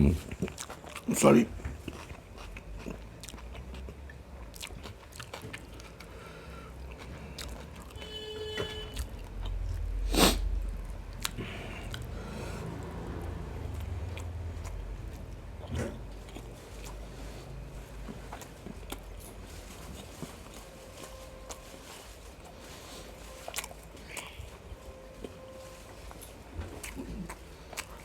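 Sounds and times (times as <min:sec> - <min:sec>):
chewing and mouth sounds: 0:00.0 - 0:28.0.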